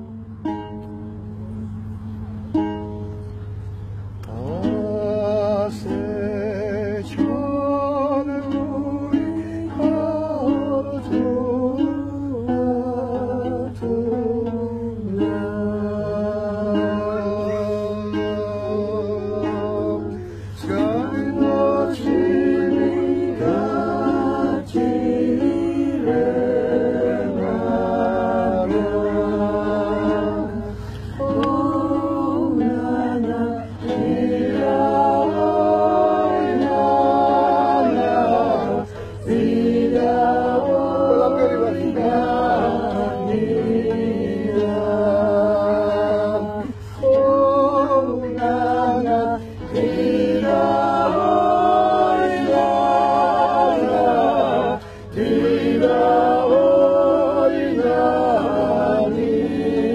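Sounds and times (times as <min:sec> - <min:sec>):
voices singing in harmony: 0:00.0 - 0:59.9.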